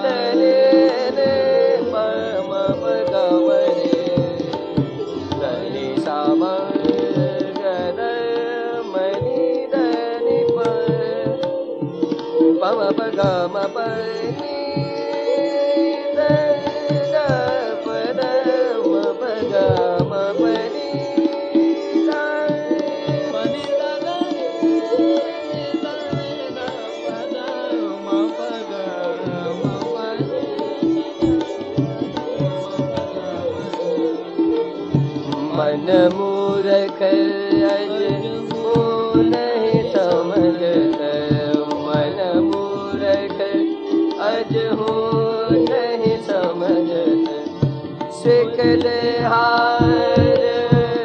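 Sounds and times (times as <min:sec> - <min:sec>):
tabla: 0:00.0 - 0:51.0
voices singing ornamented melodies: 0:00.0 - 0:51.0.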